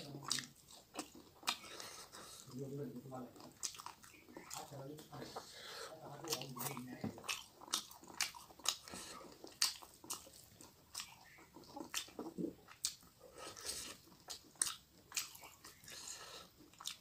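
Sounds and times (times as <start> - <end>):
chewing with wet mouth smacks: 0.0 - 17.0
fingers squishing rice and curry: 0.0 - 17.0.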